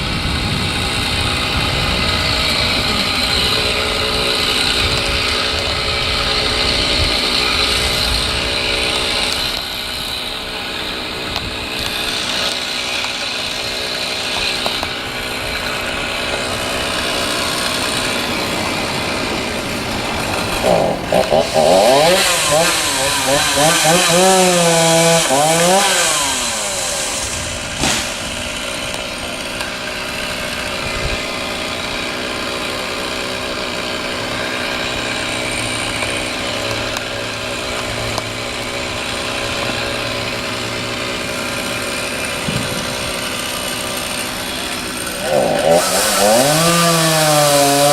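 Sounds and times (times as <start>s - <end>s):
chainsaw running: 0.0s - 47.9s.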